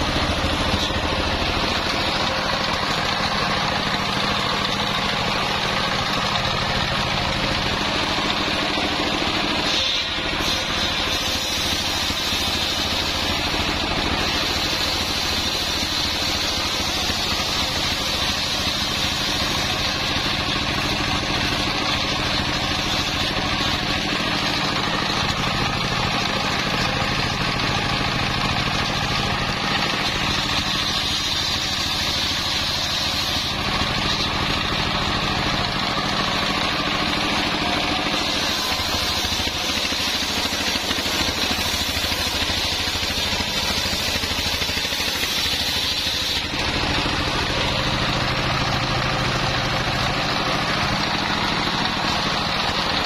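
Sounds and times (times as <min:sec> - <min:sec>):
circular saw ripping timber: 0:00.0 - 0:53.0
diesel engine running: 0:00.0 - 0:53.0.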